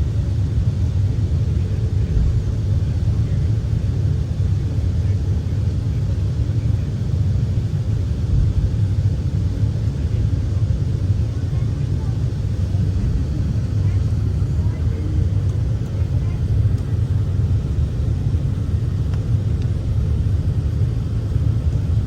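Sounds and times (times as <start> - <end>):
low rumble inside aircraft cabin: 0.0 - 22.0.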